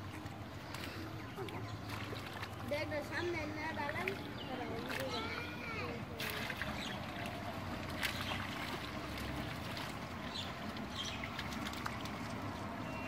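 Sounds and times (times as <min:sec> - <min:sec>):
short splashes: 0:00.0 - 0:13.0
water trickling and splashing: 0:00.0 - 0:13.0.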